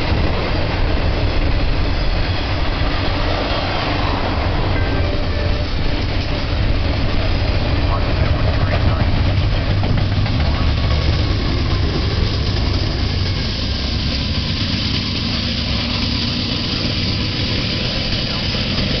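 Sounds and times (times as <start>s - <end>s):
diesel locomotive engine drone: 0.0s - 19.0s
rumble of rail cars: 0.0s - 19.0s.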